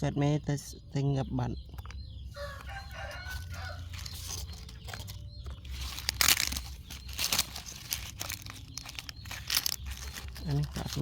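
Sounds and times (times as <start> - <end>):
crackling and rustling: 1.7 - 11.0.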